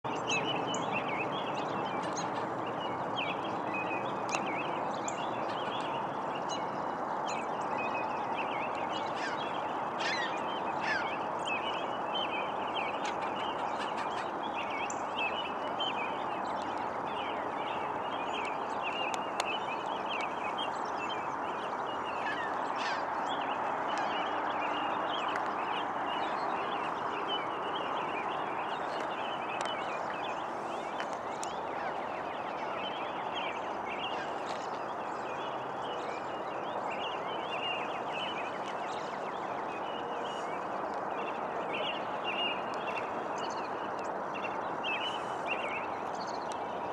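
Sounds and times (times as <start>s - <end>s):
birds chattering and calling: 0.1s - 46.9s
steady rushing noise: 0.1s - 46.9s.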